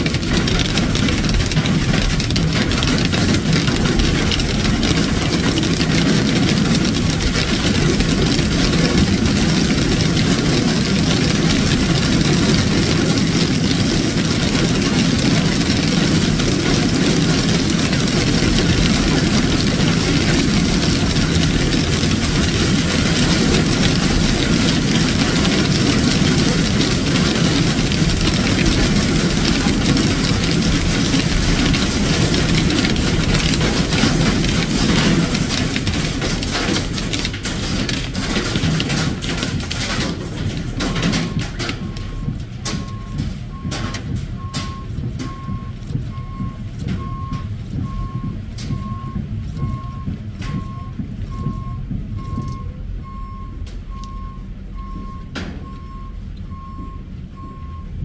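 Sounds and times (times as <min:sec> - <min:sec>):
rain and hail drumming on car roof: 0:00.0 - 0:58.0.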